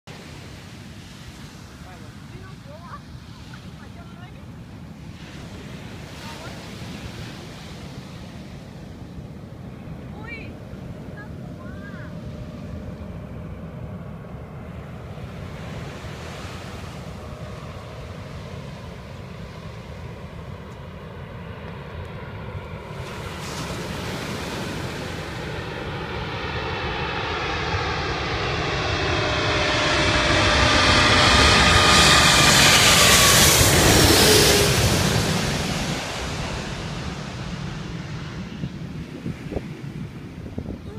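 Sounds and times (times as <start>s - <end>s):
jet engines rumbling and whining: 0.1s - 40.9s.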